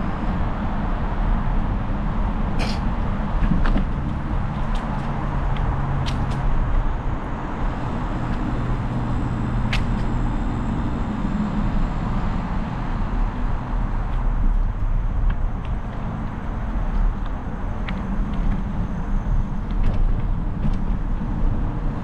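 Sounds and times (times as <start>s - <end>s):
bike tyres rolling on asphalt: 0.0s - 22.0s
wind noise on microphone: 0.0s - 22.0s.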